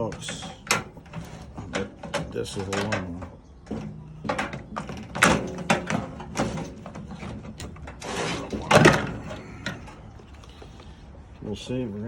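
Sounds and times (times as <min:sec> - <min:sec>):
metal parts clanking and scraping: 0:00.0 - 0:10.8.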